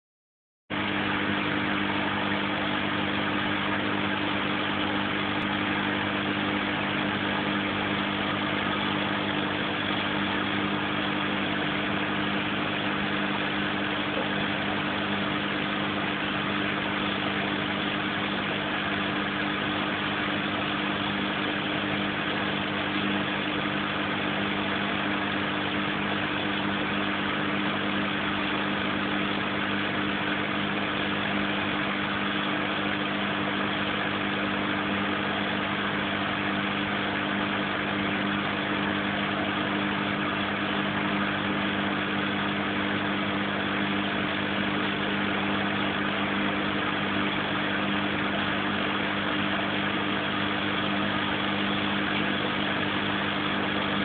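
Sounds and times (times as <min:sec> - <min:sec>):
aquarium pump humming: 0:00.7 - 0:54.0.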